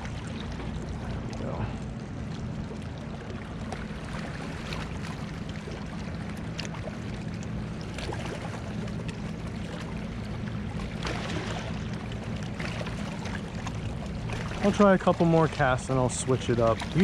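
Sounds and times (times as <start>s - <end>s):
water lapping: 0.0s - 17.0s.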